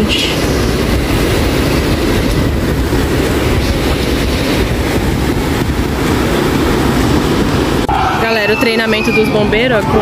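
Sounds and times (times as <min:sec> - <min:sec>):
waves breaking on beach: 0:00.0 - 0:10.0.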